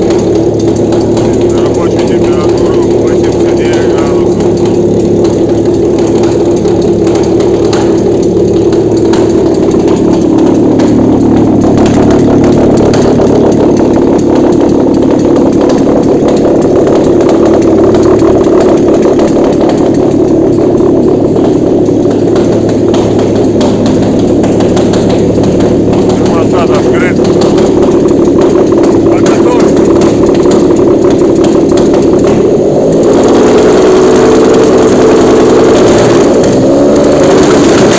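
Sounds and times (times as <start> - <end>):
engine running loudly: 0.0 - 37.9.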